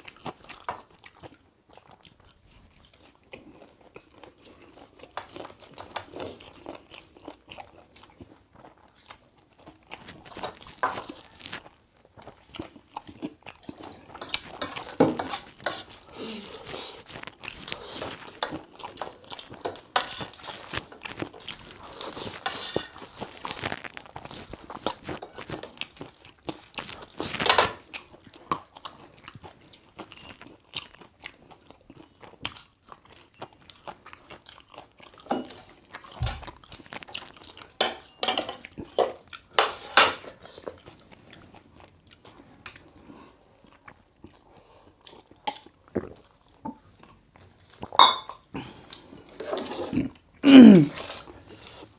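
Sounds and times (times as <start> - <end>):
person chewing with crunches: 0.0 - 51.9.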